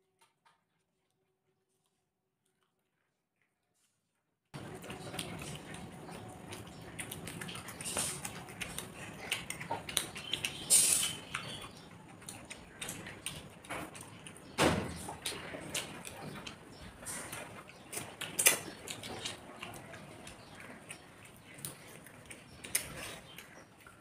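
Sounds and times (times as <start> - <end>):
people chewing: 4.6 - 24.0.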